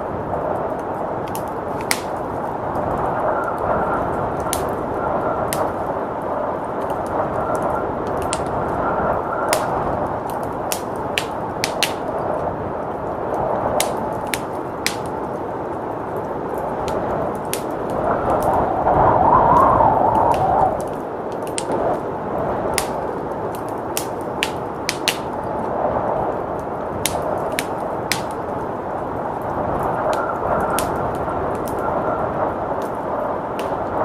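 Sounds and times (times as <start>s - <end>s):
blizzard wind rushing: 0.0s - 34.0s
wood fire crackling and popping: 0.0s - 34.0s.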